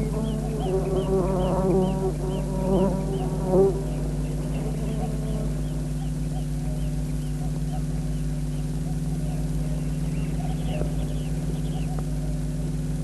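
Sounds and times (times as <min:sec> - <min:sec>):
faint birdlike chirps: 0:00.0 - 0:12.8
steady low hum: 0:00.0 - 0:13.0.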